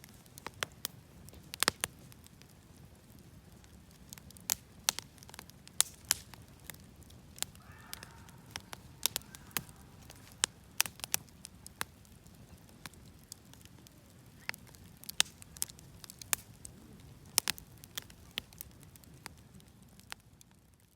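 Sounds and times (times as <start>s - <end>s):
bonfire crackling and popping: 0.0s - 20.9s
low rumble of burning: 0.0s - 20.9s.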